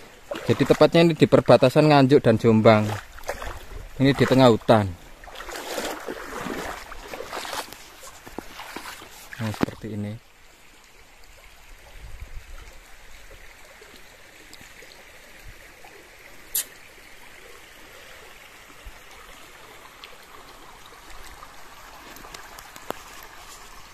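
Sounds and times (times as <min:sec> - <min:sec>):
stream trickling over stones: 0:00.0 - 0:23.9.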